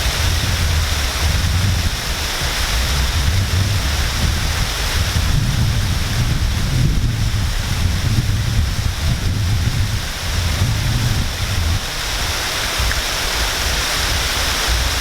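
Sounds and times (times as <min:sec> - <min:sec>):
low uneven rumble: 0:00.0 - 0:15.0
waterfall rushing: 0:00.0 - 0:15.0.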